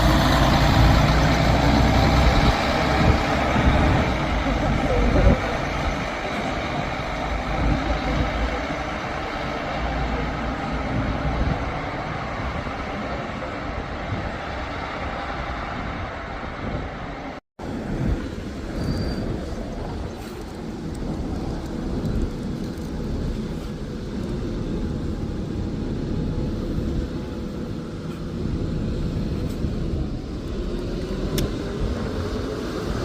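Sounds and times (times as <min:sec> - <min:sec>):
roadside traffic passing: 0:00.0 - 0:33.0.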